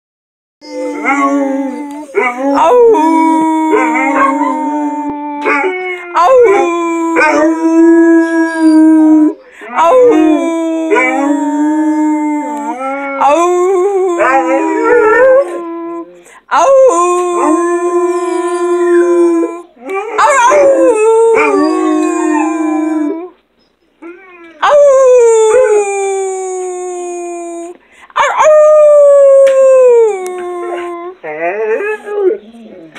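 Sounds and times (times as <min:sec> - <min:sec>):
dogs howling together: 0:00.6 - 0:23.4, 0:28.2 - 0:32.9.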